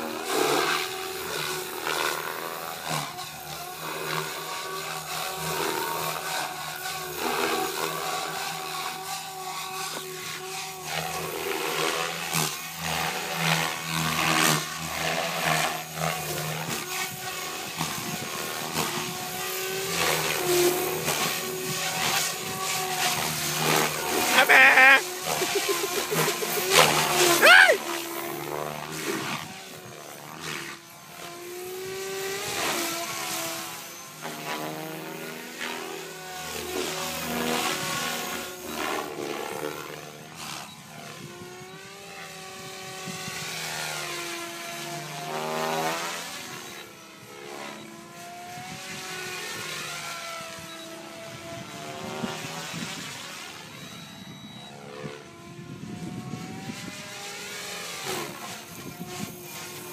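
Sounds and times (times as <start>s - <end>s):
helicopter rotor and motor whine: 0.0s - 59.9s.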